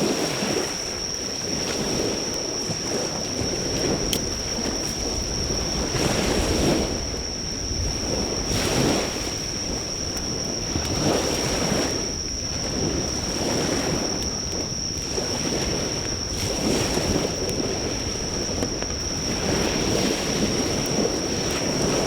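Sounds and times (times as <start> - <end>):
high-pitched insect trill: 0.0 - 22.0
sea waves washing onto shore: 0.0 - 22.0
faint campfire crackles: 0.2 - 22.0.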